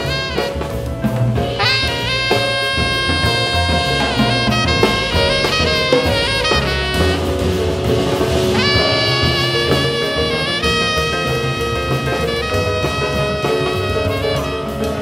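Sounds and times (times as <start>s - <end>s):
drum kit: 0.0s - 15.0s
tenor saxophone solo: 0.0s - 15.0s
upright bass: 0.0s - 15.0s.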